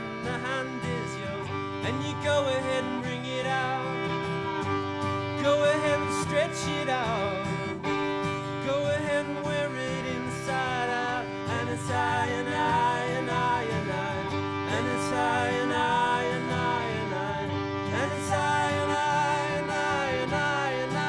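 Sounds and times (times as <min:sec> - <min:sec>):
bowed string melody: 0:00.0 - 0:21.0
plucked guitar: 0:00.0 - 0:21.0.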